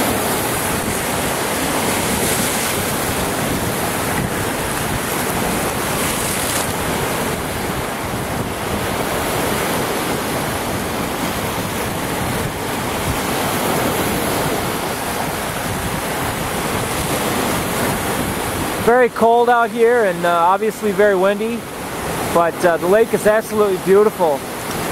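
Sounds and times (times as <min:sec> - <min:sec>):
wind buffeting microphone: 0:00.0 - 0:20.0
waves splashing on rocky shore: 0:00.0 - 0:24.9.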